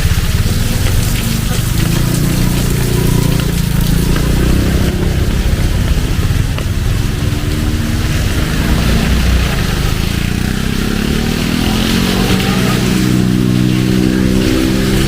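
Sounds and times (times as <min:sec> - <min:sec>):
heavy rain falling: 0:00.0 - 0:15.0
vehicle engine running: 0:00.0 - 0:15.0.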